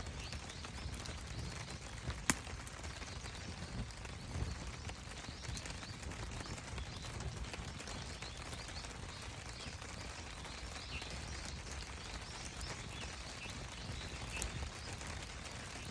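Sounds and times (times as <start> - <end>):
campfire crackling and popping: 0.0 - 15.9.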